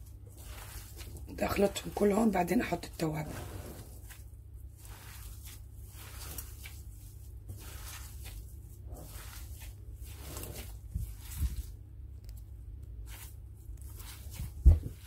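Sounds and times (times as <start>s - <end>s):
hands squelching minced meat: 0.0s - 15.0s.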